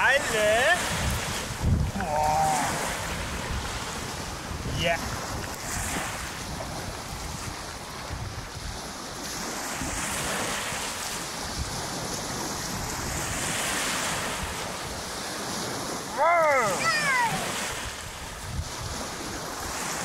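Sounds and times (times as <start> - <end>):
small waves washing on shore: 0.0 - 20.0
wind rumbling on microphone: 0.0 - 20.0.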